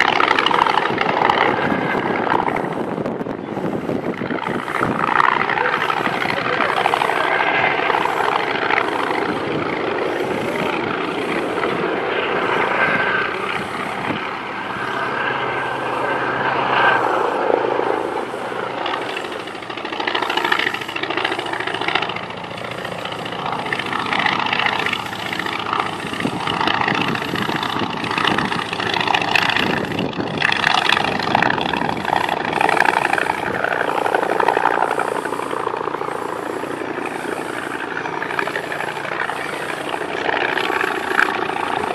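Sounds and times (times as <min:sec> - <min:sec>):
propeller aircraft engine: 0:00.0 - 0:41.9.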